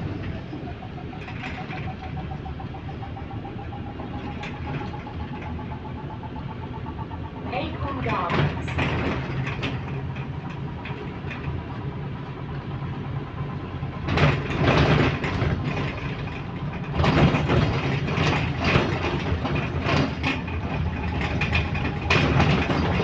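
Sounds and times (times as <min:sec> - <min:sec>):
bus engine hum: 0:00.0 - 0:23.0
interior rattling: 0:00.0 - 0:23.0.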